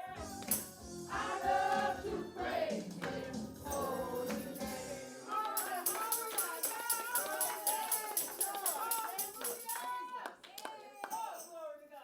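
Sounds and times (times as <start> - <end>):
tambourine beat: 0.0 - 10.2, 11.0 - 11.7
gospel singing voices: 0.0 - 11.8.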